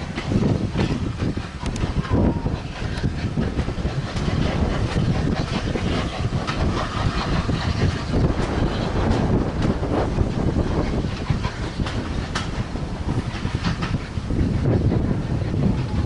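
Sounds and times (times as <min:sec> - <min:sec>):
train wheels clattering over track: 0:00.0 - 0:16.0.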